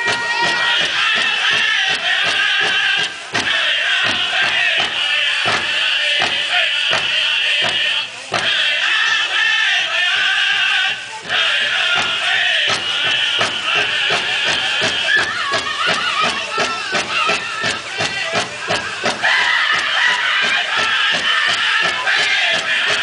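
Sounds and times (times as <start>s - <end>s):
big drum beat: 0.0s - 23.0s
voices singing high: 0.0s - 23.0s.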